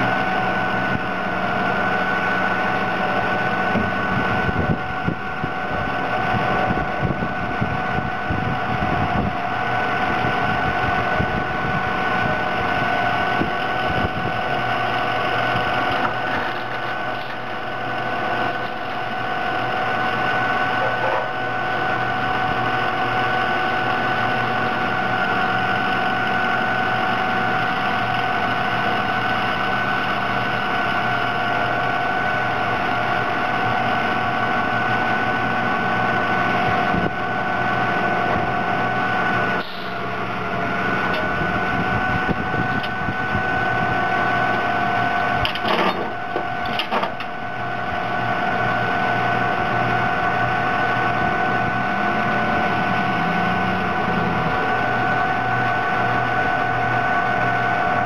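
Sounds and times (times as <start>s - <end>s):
diesel engine idling: 0.0s - 58.0s
high-pitched whine: 0.0s - 58.0s.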